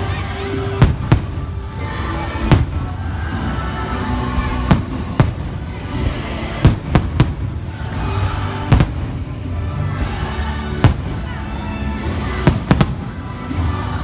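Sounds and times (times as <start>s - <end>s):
fireworks bangs: 0.0s - 14.0s
music: 0.0s - 14.0s.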